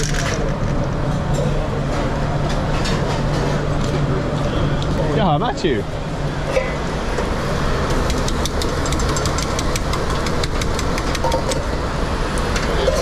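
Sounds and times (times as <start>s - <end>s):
kitchen extraction rumble: 0.0s - 13.0s.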